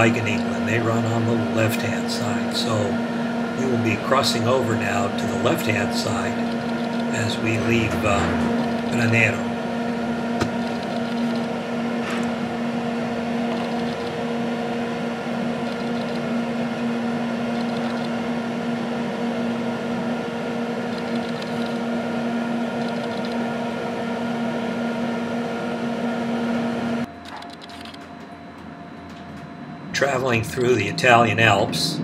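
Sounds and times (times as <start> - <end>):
rail car humming drone: 0.0 - 32.0.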